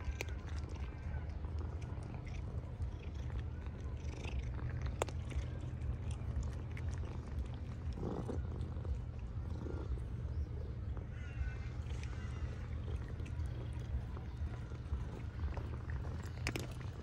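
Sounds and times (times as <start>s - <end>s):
cat crunching dry kibble: 0.0s - 17.0s
steady low rumble: 0.0s - 17.0s.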